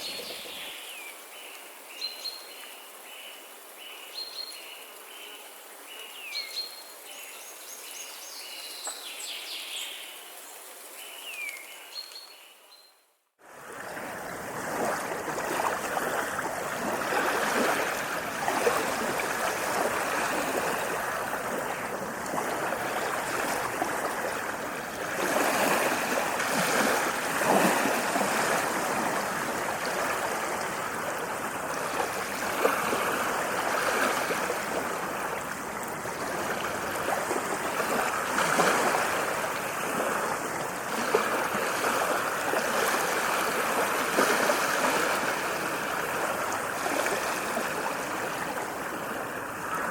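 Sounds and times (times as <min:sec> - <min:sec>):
running water: 0:00.0 - 0:12.6, 0:13.4 - 0:49.9.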